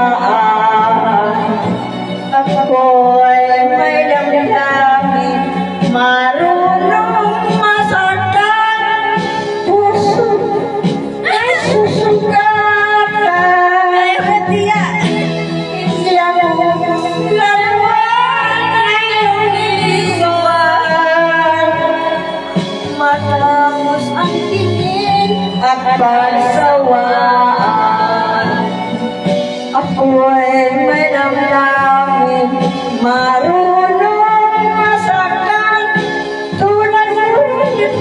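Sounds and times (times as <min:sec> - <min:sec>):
backing track from speaker: 0:00.0 - 0:38.0
woman singing karaoke: 0:00.0 - 0:38.0.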